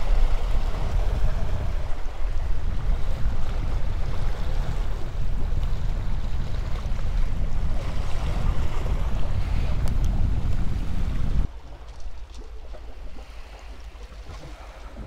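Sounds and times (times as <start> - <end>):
small waves breaking on rocks: 0.0 - 15.0
wind buffeting microphone: 0.0 - 15.0.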